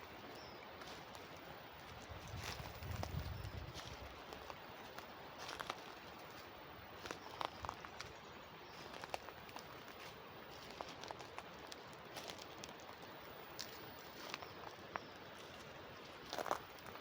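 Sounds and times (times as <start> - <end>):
water flowing in a channel: 0.0 - 3.1, 3.7 - 17.0
footsteps on dry leaves: 0.0 - 17.0.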